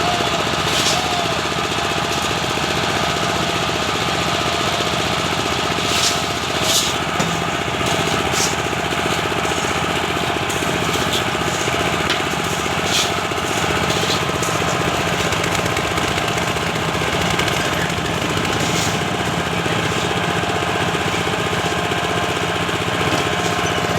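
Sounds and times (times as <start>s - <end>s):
small engine chugging: 0.0s - 23.9s.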